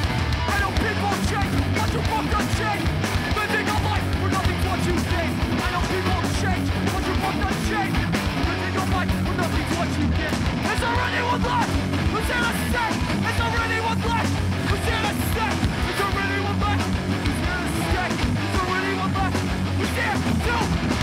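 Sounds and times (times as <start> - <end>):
punk band playing live: 0.0 - 21.0
vocalist yelling: 0.5 - 21.0.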